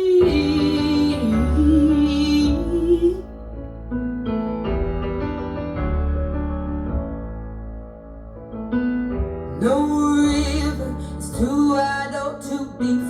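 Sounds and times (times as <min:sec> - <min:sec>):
steady bass: 0:00.0 - 0:12.6
soft keyboard chords: 0:00.0 - 0:13.0.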